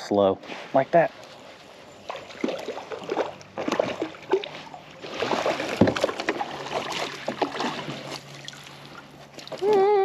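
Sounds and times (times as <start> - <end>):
water sloshing around kayak: 1.2 - 9.9.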